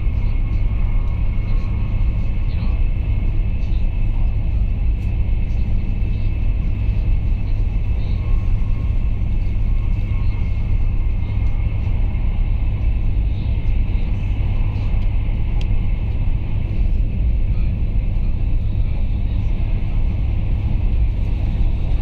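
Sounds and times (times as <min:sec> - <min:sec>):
faint high whine: 0:00.0 - 0:22.0
train rumbling at speed: 0:00.0 - 0:22.0.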